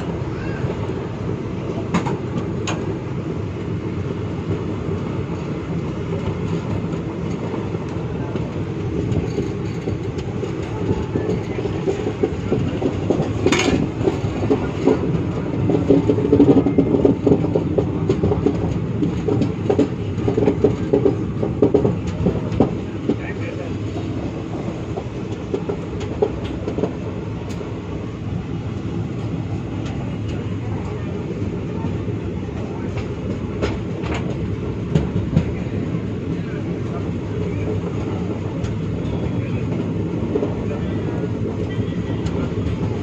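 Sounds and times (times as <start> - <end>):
train wheels clickety-clack: 0.3 - 43.0.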